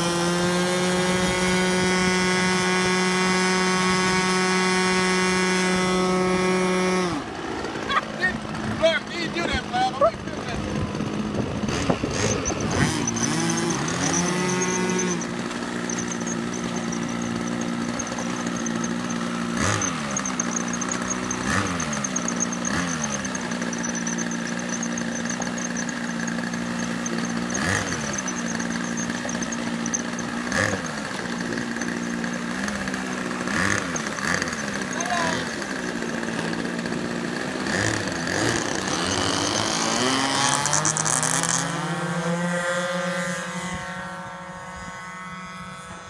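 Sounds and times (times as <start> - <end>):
model airplane engines passing: 0.0 - 46.0.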